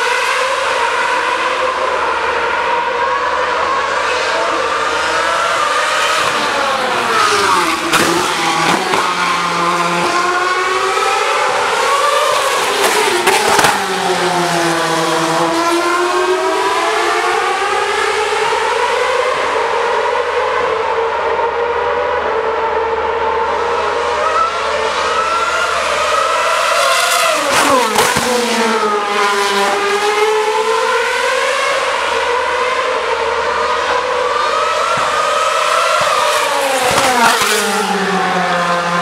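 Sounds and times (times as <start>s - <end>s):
racing car engines screaming: 0.0s - 39.0s.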